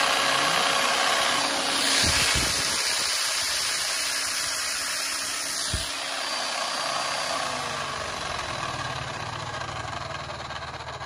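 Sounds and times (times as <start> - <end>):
demolition hammer running: 0.0 - 11.0.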